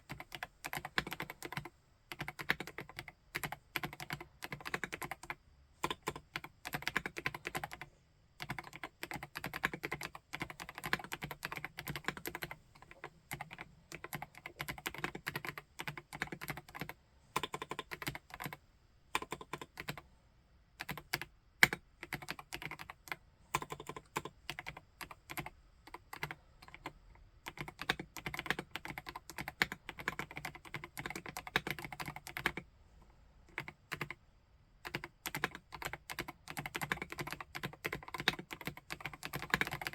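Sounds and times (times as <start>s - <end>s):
mechanical keyboard typing: 0.0s - 18.6s, 19.2s - 20.0s, 20.8s - 32.6s, 33.5s - 34.2s, 34.8s - 39.9s.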